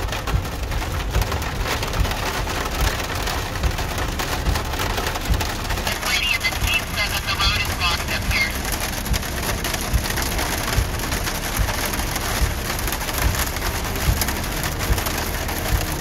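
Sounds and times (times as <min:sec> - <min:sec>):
heavy rain on a car roof: 0:00.0 - 0:16.0.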